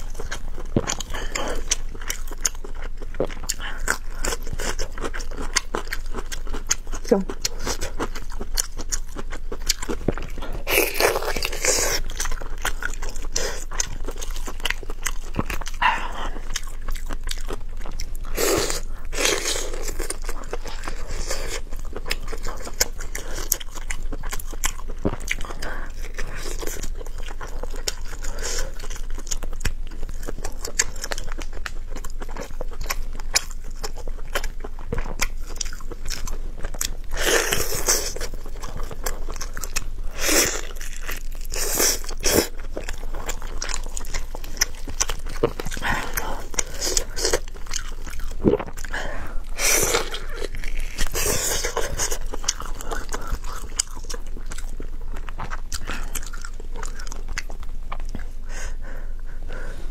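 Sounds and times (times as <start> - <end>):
biting and chewing: 0.0 - 58.8.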